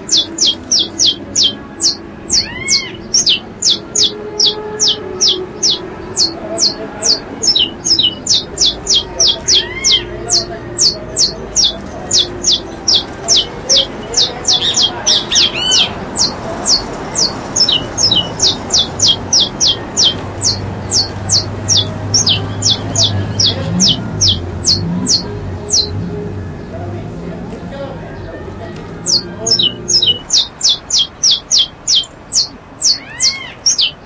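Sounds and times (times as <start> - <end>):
bird calling high falling notes: 0.0 - 26.0, 29.0 - 34.0
other birds calling: 0.0 - 26.7, 28.2 - 34.0.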